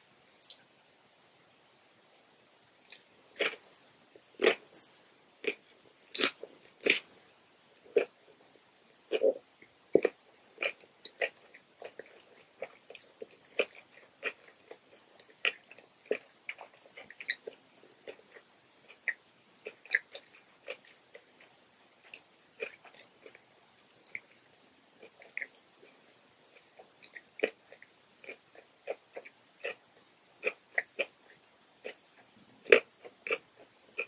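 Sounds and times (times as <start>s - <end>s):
chewing and mouth sounds: 2.8s - 7.1s, 10.0s - 34.0s.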